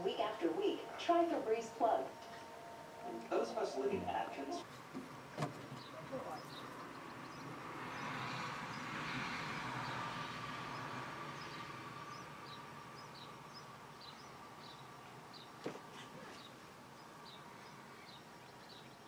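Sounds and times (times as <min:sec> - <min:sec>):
passing car: 0:00.0 - 0:19.0.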